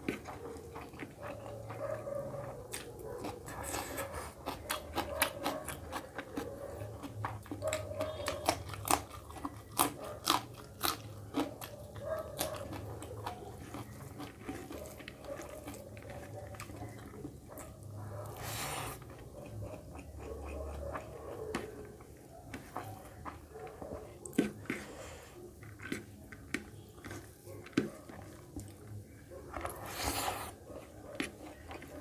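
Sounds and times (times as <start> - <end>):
chewing and biting food: 0.0 - 32.0.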